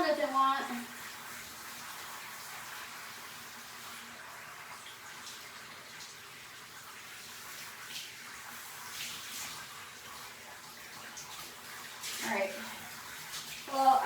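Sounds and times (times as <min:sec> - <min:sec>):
shower water running: 0:00.0 - 0:14.0
water splashes: 0:00.0 - 0:14.0.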